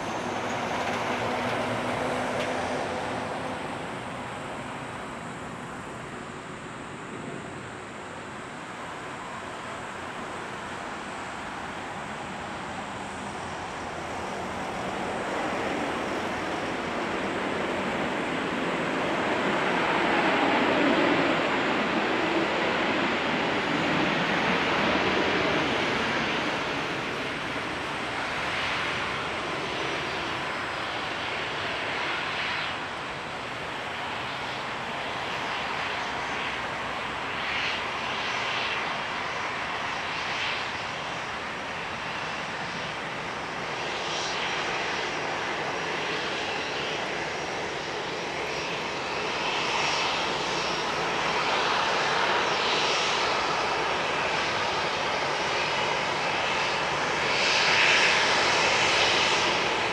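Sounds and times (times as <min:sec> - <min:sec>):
jet engines running at low power: 0:00.0 - 0:59.9.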